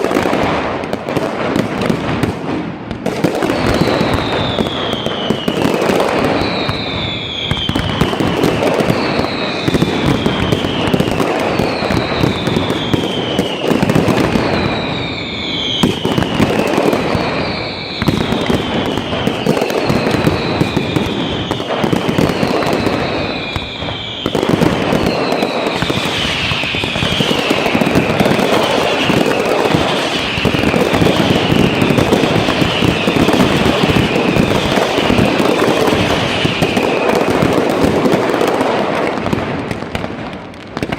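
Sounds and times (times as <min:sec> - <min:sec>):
fireworks crackling and banging: 0:00.0 - 0:40.9
fireworks falling whistles: 0:00.0 - 0:40.9.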